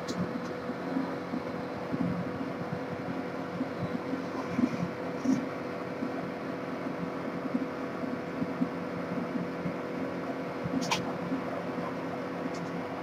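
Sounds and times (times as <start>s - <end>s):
steady tonal hum: 0.0s - 13.0s.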